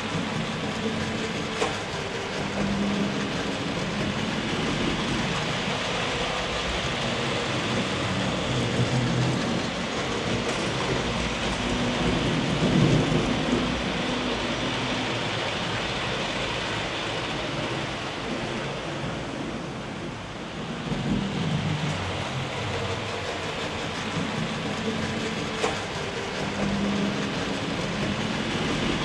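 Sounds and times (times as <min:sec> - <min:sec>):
model train wheels on rails: 0:00.0 - 0:29.0.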